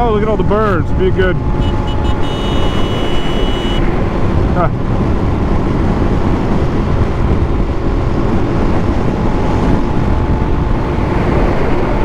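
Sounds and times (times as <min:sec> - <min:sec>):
wind rushing on microphone: 0:00.0 - 0:12.0
motorcycle engine drone: 0:00.4 - 0:12.0.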